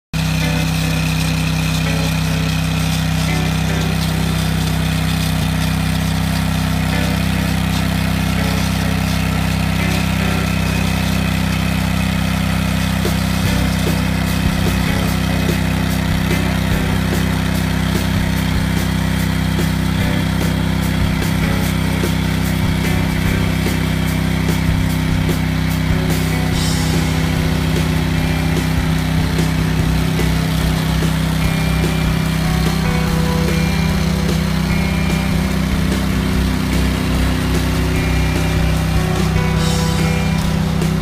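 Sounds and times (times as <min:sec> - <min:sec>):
hedge-cutting machine engine: 0:00.1 - 0:41.0
rapid ticking: 0:00.2 - 0:41.0.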